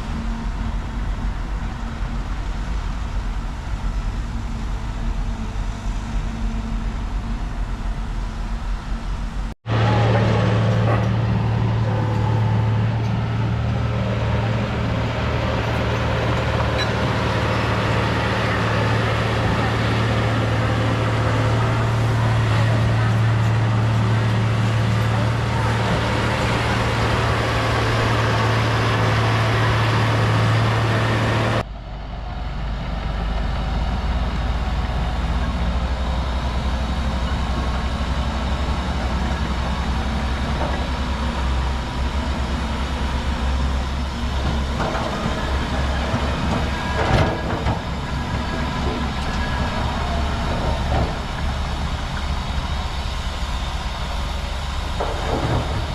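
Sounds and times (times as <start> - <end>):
heavy machinery diesel engine running: 0.0 - 55.9.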